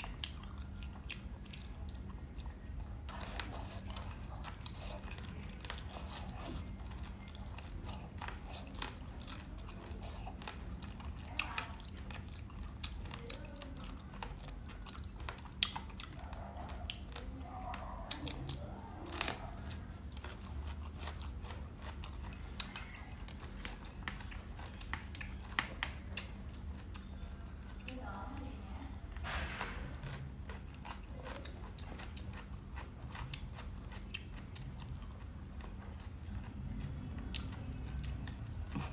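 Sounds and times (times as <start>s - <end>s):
person chewing crunchy food: 0.0s - 38.9s
steady low hum: 0.0s - 38.9s.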